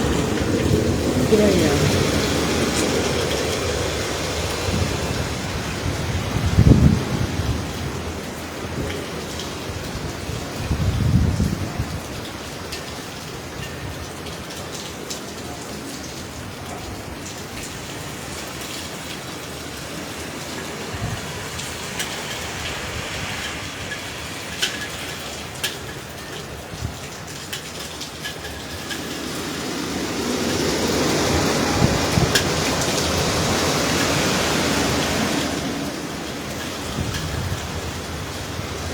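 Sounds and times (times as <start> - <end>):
gusting wind: 0.0 - 15.2, 16.1 - 38.9
heavy rain falling: 0.0 - 38.9.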